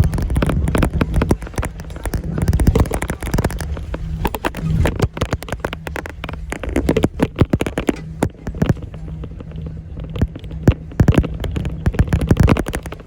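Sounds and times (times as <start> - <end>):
bus body rattling: 0.0 - 13.0
bus engine drone: 0.0 - 13.0.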